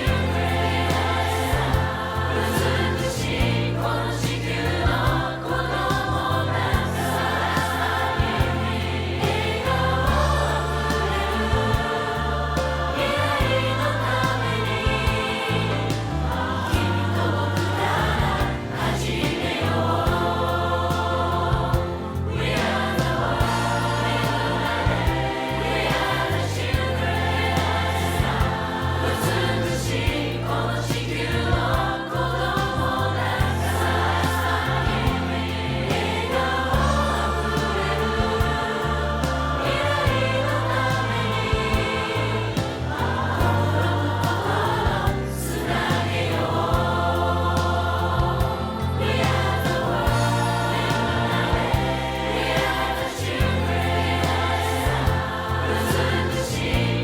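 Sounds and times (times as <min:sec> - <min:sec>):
song with choir-like vocals: 0:00.0 - 0:57.0
steady bass line: 0:00.0 - 0:57.0.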